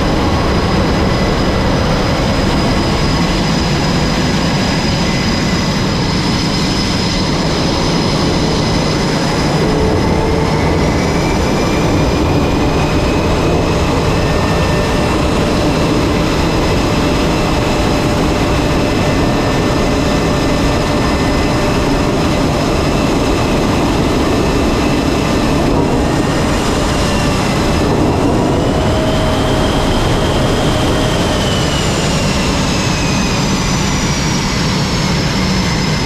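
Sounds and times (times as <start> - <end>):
jet engines roaring and whining: 0.0 - 36.0.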